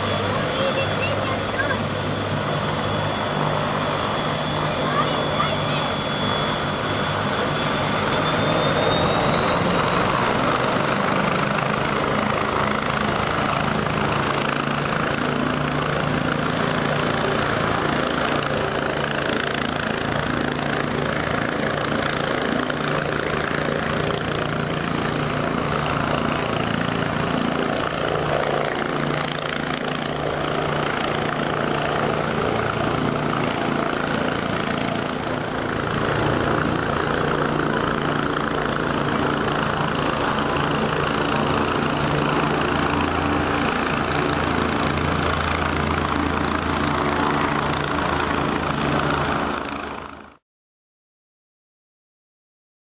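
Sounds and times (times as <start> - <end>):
helicopter rotor and engine: 0.0 - 50.4
small propeller plane engine: 0.0 - 50.4.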